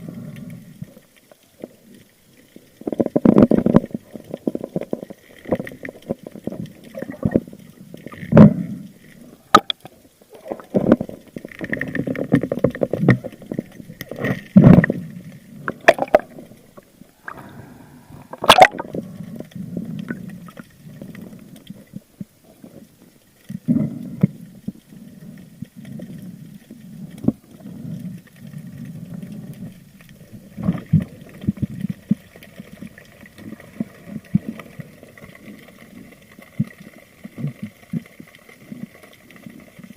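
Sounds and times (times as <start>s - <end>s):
water gurgling and sloshing: 0.0s - 39.9s.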